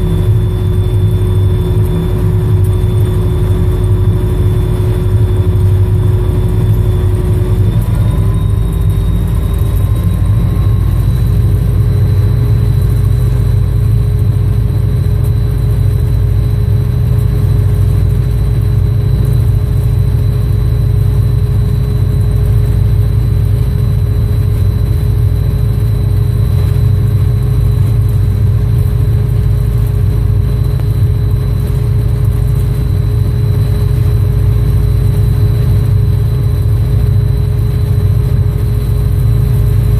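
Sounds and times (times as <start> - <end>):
diesel locomotive rumbling: 0.0 - 39.9
thin whine: 0.0 - 39.9.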